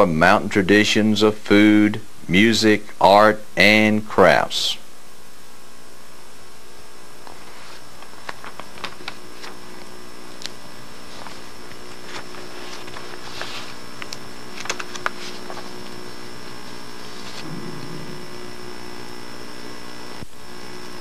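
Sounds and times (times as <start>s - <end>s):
tape hiss and hum: 0.0s - 21.0s.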